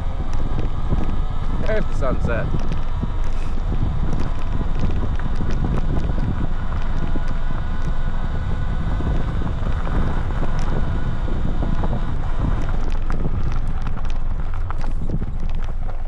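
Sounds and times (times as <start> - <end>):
faint electric motor whine: 0.0 - 16.0
wind rumbling on microphone: 0.0 - 16.0.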